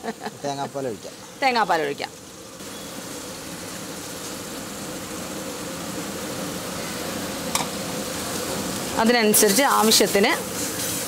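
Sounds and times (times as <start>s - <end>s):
gravy sizzling and hissing: 0.0s - 11.0s
steady hum: 0.0s - 11.0s.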